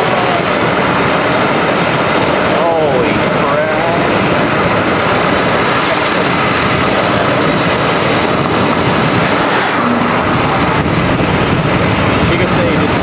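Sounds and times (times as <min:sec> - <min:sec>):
loud steady rushing noise: 0:00.0 - 0:13.0.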